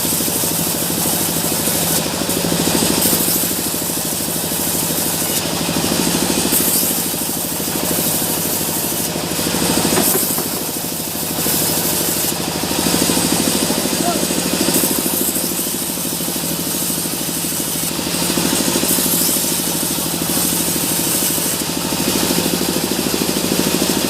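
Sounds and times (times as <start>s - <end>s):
machinery hiss: 0.0s - 21.9s
engine chugging: 0.0s - 24.0s.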